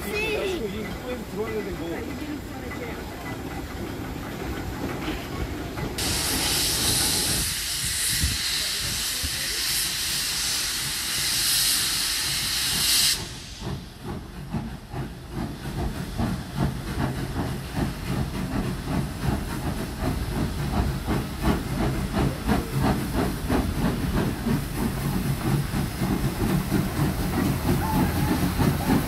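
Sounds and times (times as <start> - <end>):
steam hissing: 0.0 - 29.0
steam locomotive exhaust chuffs: 0.0 - 29.0.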